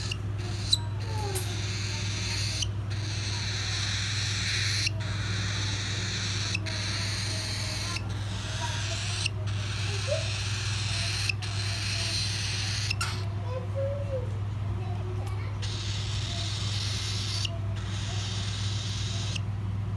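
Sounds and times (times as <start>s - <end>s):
cockatiel chicks squeaky calls: 0.0s - 13.4s, 15.5s - 19.5s
low hum and hiss: 0.0s - 19.9s.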